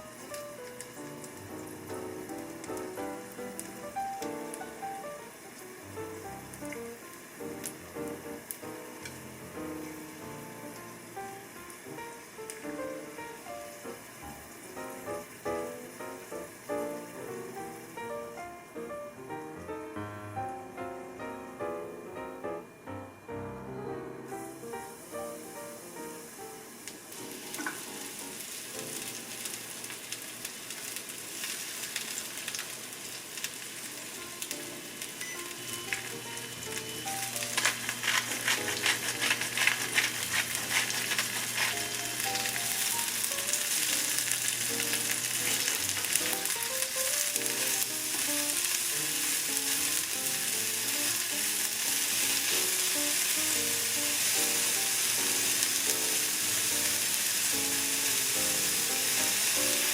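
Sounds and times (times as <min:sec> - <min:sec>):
stir-fry sizzling in a frying pan: 0:00.0 - 0:23.4, 0:24.0 - 0:59.9
soft background music: 0:00.0 - 0:29.5, 0:34.2 - 0:59.9.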